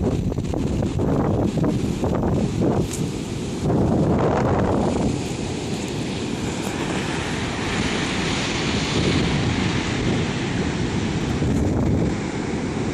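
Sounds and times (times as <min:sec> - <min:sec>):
ocean surf breaking: 0:00.0 - 0:12.9
wind on microphone: 0:00.0 - 0:12.9.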